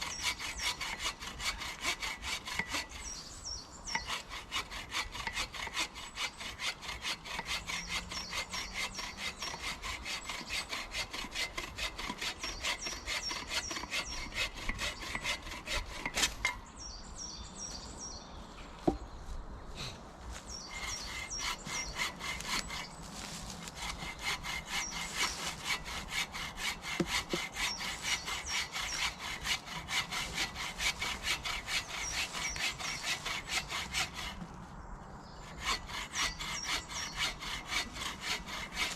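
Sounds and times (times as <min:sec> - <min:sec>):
hand saw cutting wood: 0:00.0 - 0:03.2, 0:03.9 - 0:16.6, 0:20.6 - 0:34.5, 0:35.4 - 0:38.9.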